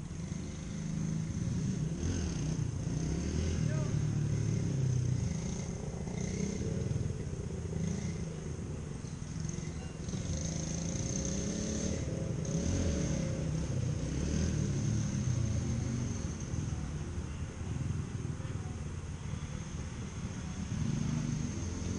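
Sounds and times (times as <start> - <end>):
small engine low uneven rumble: 0.0 - 21.9.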